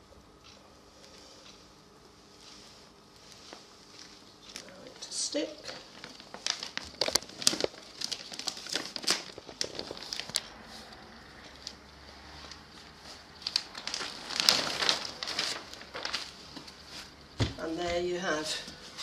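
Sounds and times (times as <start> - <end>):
fabric crinkling and rustling: 2.1 - 18.0.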